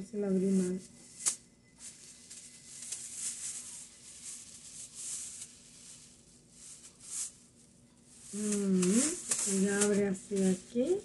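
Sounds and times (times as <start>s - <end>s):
faint steady hum: 0.0s - 11.0s
thin plastic cap rustling: 1.0s - 7.6s, 8.2s - 10.9s.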